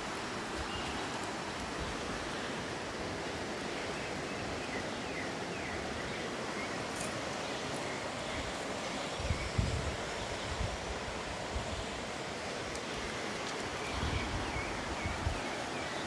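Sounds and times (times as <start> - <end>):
outdoor ambient noise: 0.0 - 16.0.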